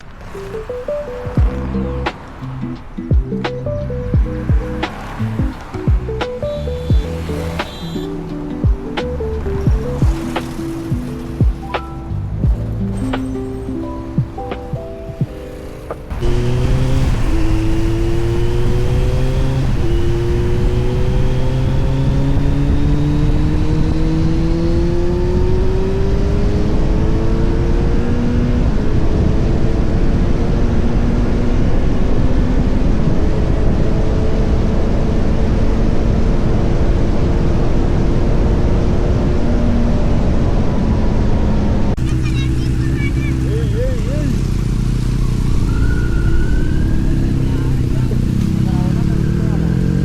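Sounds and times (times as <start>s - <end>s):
motorcycle engine accelerating: 0.0s - 13.4s, 14.0s - 50.0s
road noise: 0.0s - 50.0s
rushing wind: 0.0s - 50.0s.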